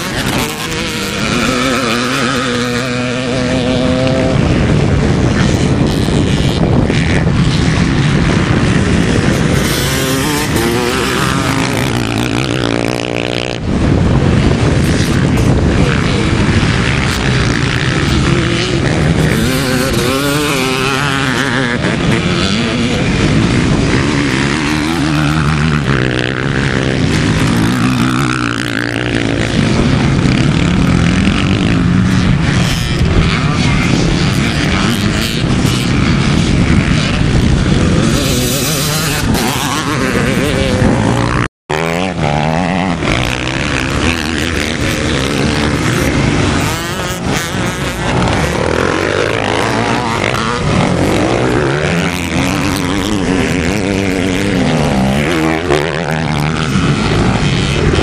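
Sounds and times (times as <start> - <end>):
motocross motorcycles revving: 0.0 - 58.0.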